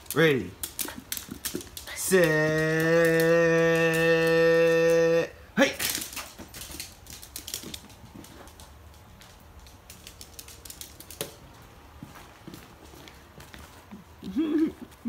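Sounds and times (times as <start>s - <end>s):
puppy claws clicking on wood floor: 0.0s - 5.2s, 5.8s - 14.1s.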